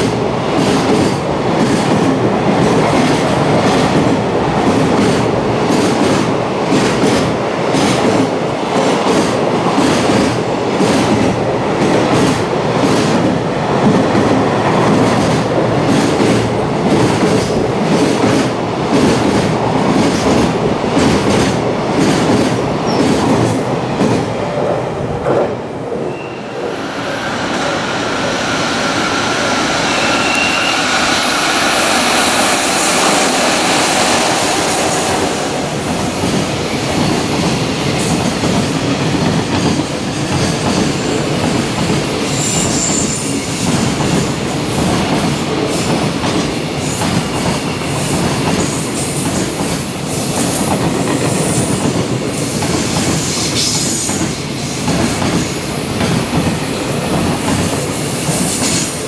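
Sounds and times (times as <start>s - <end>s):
clickety-clack over rail joints: 0.0s - 25.6s, 35.1s - 59.0s
train wheels rumbling: 0.0s - 59.0s.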